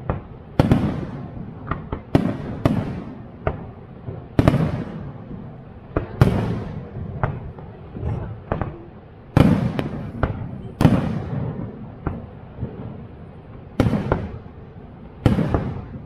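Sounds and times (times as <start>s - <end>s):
fireworks booming: 0.0s - 16.0s.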